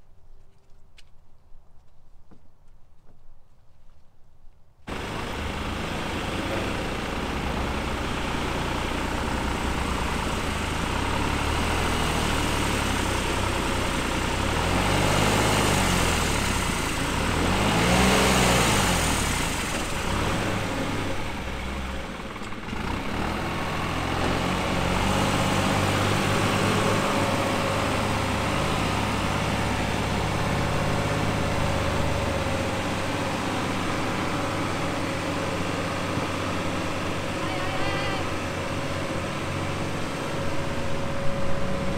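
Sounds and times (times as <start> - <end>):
diesel engines running under load: 4.9 - 41.9
engine revving: 4.9 - 41.9.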